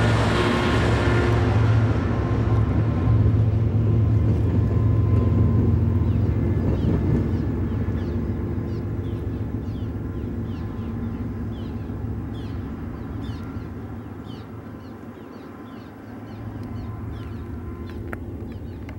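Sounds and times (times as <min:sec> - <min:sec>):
low rumble of coal train: 0:00.0 - 0:18.9.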